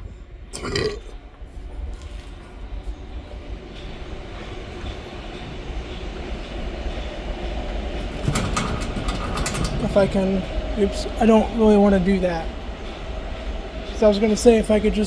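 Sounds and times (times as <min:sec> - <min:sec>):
passing train rumble: 0:00.0 - 0:15.0.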